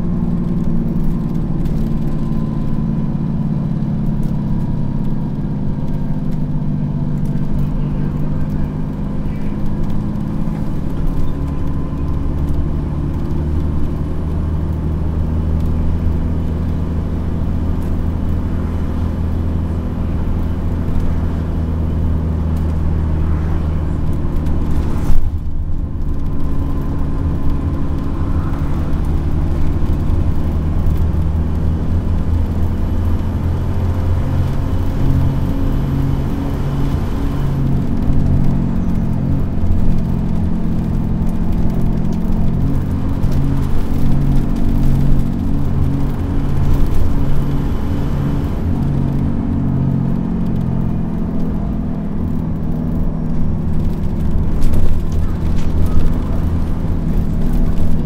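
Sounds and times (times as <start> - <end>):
bus diesel engine droning: 0.0 - 58.0.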